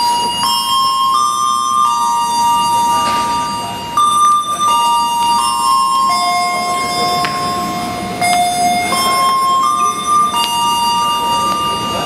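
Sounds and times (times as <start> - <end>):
slow chime melody: 0.0 - 12.0.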